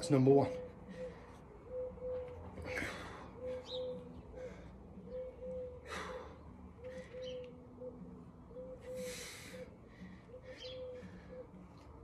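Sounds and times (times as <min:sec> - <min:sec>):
dove cooing: 0:00.5 - 0:12.0.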